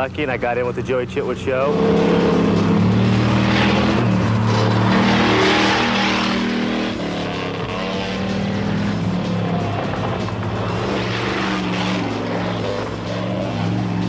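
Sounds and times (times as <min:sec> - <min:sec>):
car and motorcycle engines: 0:00.0 - 0:14.0
rushing noise: 0:01.6 - 0:14.0.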